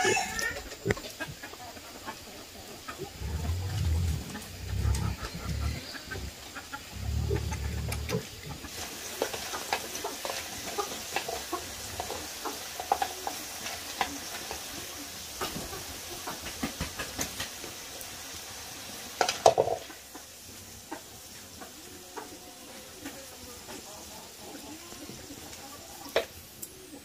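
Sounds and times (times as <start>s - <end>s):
frying sizzle in wok: 0.0s - 27.0s.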